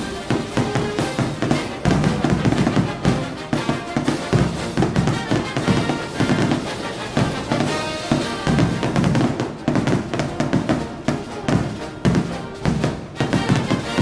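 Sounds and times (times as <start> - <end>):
fireworks bursting with bangs and crackles: 0.0 - 14.0
music playing: 0.0 - 14.0.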